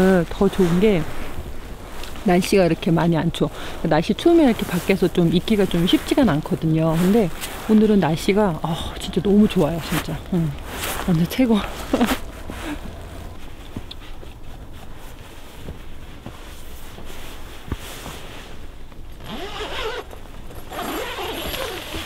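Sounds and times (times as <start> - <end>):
footsteps in deep snow: 0.0 - 22.0.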